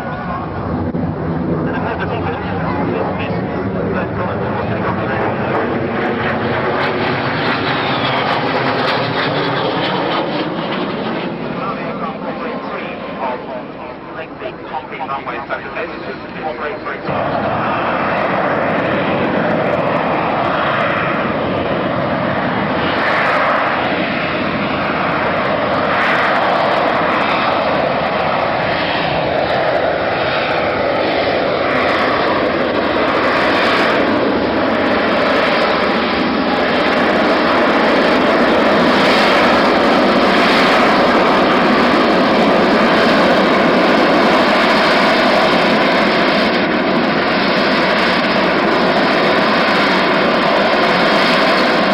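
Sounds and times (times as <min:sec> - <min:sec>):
aircraft engine noise: 0:00.0 - 0:51.9.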